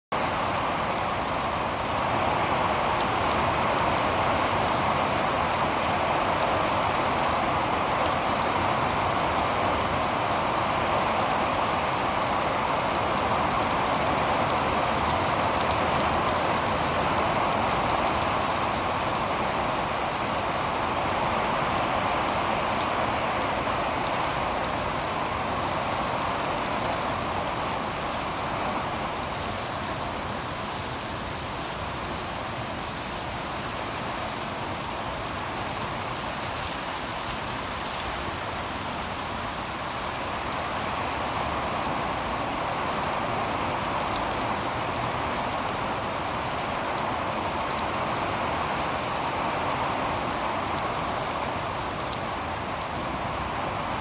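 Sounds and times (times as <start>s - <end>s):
heavy rain on asphalt: 0.0s - 54.0s.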